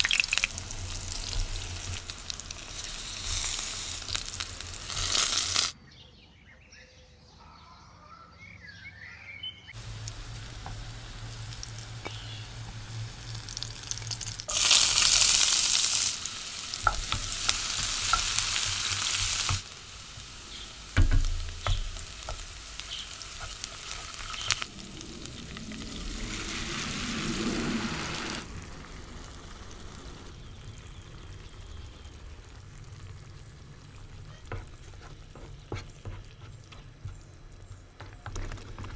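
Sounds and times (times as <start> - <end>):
onion sizzling in a pan: 0.0 - 5.8, 9.8 - 37.1.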